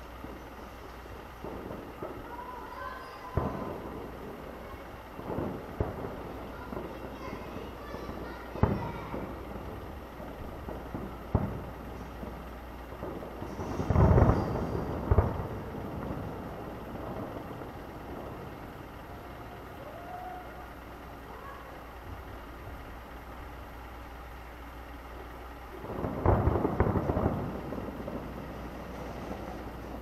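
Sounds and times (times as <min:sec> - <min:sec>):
distant fireworks bursting: 0:00.0 - 0:30.0
low rumble: 0:00.0 - 0:30.0.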